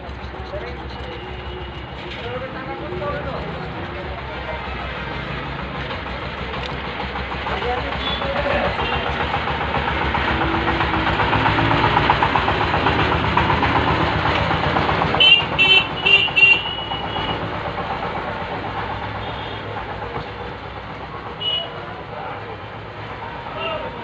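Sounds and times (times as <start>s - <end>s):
vehicle engine passing: 0.0s - 24.0s.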